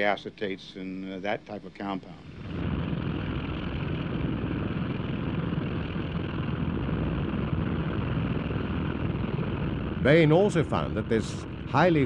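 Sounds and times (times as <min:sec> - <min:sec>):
propeller engines droning: 0:02.1 - 0:12.0.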